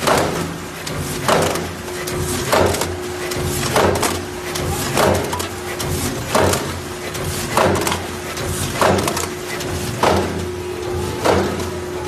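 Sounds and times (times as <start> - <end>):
bagging machine strokes: 0.0 - 12.0
machine hum: 0.0 - 12.0.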